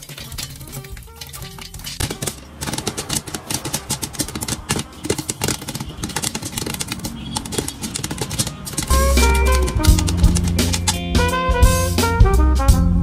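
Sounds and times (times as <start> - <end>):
popcorn popping in pot: 0.0 - 11.3.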